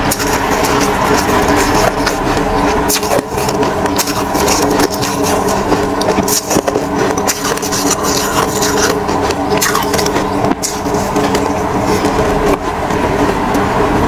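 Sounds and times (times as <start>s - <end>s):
shaved ice crunching on spoon: 0.0s - 12.5s
droning hum: 0.0s - 14.0s.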